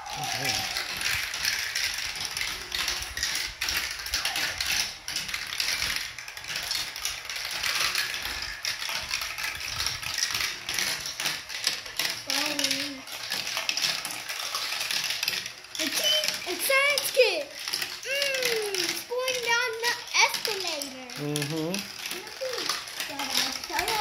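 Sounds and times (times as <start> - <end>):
plastic chain clicking clatter: 0.0 - 24.0.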